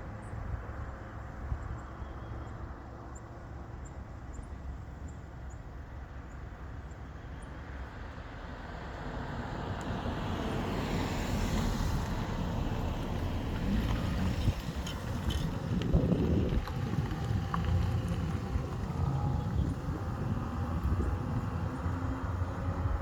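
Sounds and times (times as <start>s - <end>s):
vehicle engine and tyre noise: 0.0s - 23.0s.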